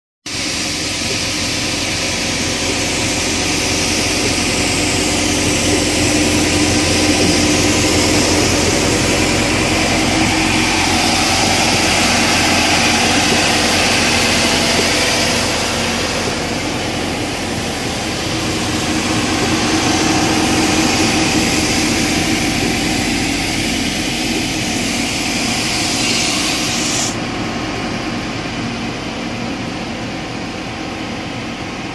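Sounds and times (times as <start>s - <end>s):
loud hiss: 0.3s - 27.2s.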